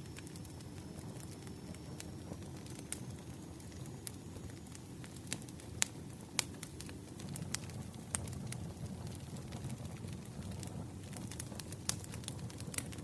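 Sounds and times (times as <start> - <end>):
firewood popping and crackling: 0.0 - 13.0
low rumble of flames: 0.0 - 13.0.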